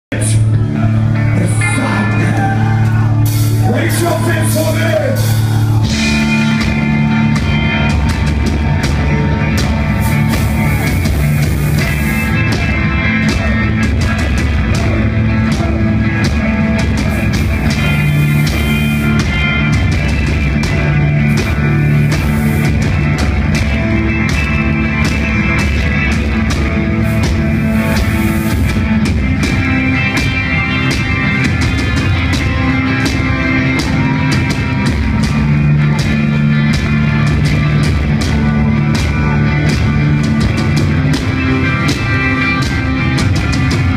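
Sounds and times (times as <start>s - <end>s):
distorted electric guitars: 0.1s - 43.9s
drum kit with cymbals: 3.3s - 43.9s.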